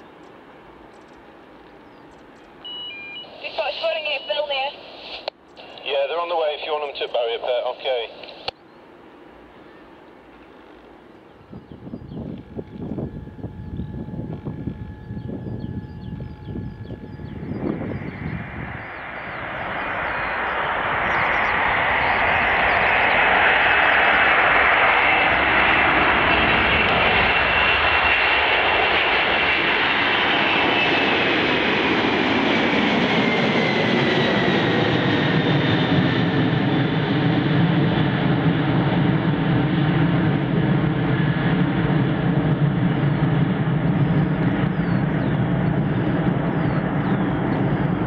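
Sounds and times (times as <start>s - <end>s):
jet engines spooling down: 0.1s - 48.0s.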